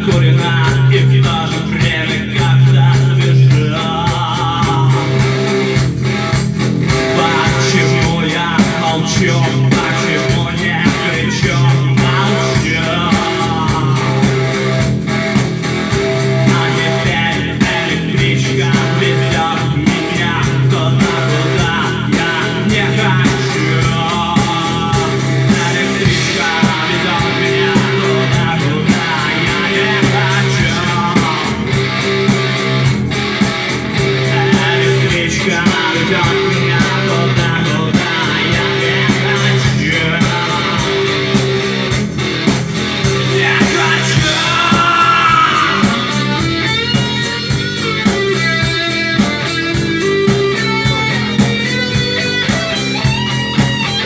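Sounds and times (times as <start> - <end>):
rock music instrumental: 0.0 - 54.0.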